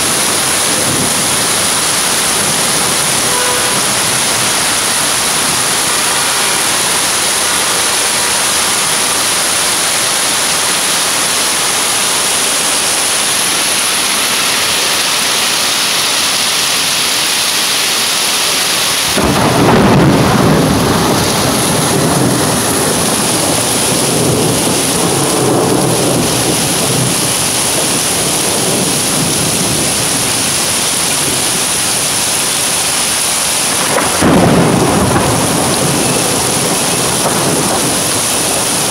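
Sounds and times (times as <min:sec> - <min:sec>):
thunder rumbling: 0:00.0 - 0:15.6, 0:19.0 - 0:32.5, 0:33.1 - 0:38.9
torrential rain: 0:00.0 - 0:38.9.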